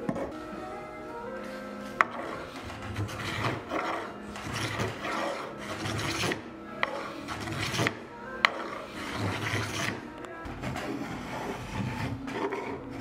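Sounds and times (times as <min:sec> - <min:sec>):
spokeshave rasping on wood: 0:02.0 - 0:13.0.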